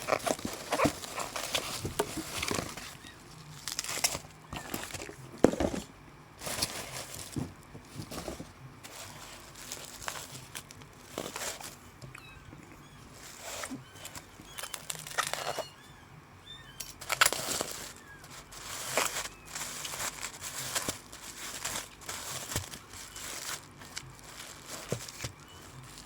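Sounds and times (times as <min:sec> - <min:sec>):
plastic packaging crinkling: 0:00.0 - 0:15.8, 0:16.5 - 0:26.0.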